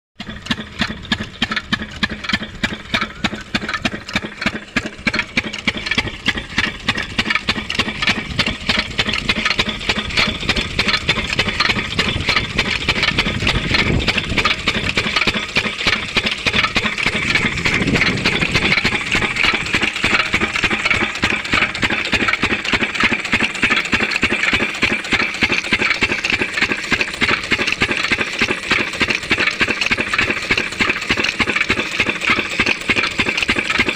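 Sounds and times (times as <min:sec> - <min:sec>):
diesel water pump engine knocking: 0:00.2 - 0:33.9.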